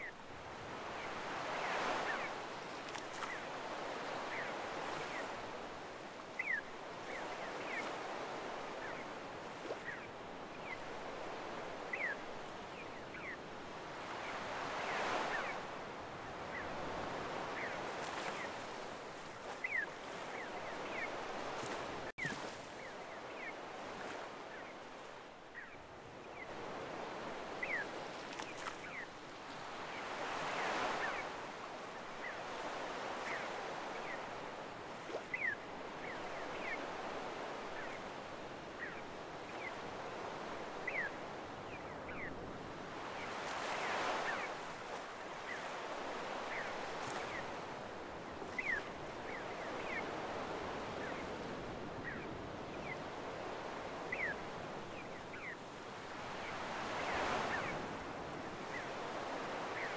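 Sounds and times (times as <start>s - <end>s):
small waves washing on beach: 0.0s - 59.9s.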